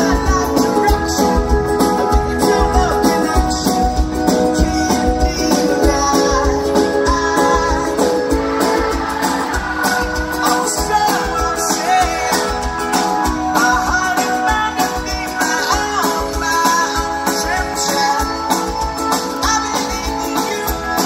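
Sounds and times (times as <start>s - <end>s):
person singing lead vocal: 0.0s - 21.0s
strummed guitar: 0.0s - 21.0s.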